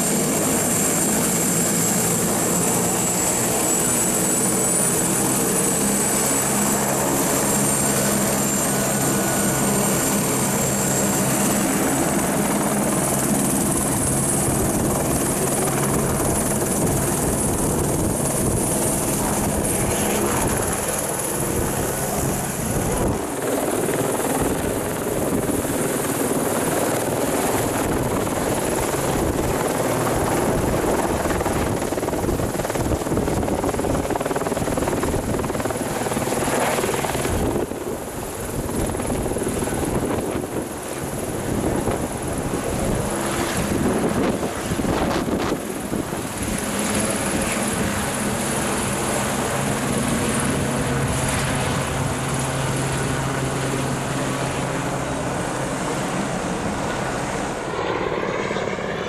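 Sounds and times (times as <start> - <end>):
helicopter turbine whine: 0.0 - 59.0.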